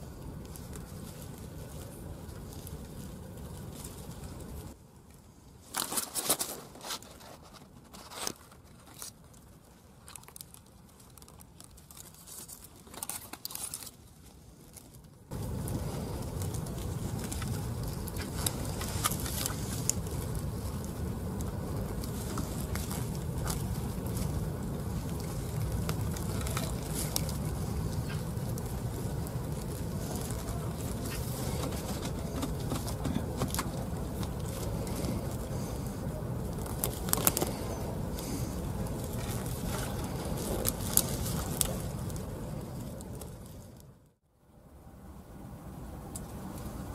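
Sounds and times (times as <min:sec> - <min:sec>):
low rushing background noise: 0:00.0 - 0:06.8, 0:14.0 - 0:46.9
dry grass rustling and crackling: 0:00.0 - 0:44.2.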